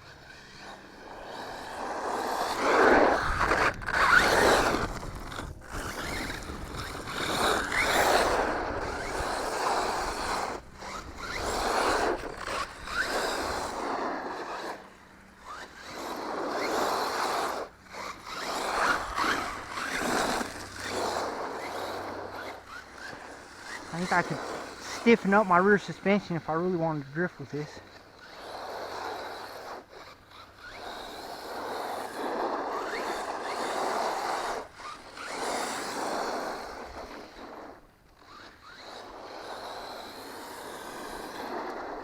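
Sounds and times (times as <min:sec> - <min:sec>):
rc truck motor whine: 0:00.0 - 0:26.1, 0:27.7 - 0:42.0
tyres scraping over ground: 0:00.4 - 0:42.0.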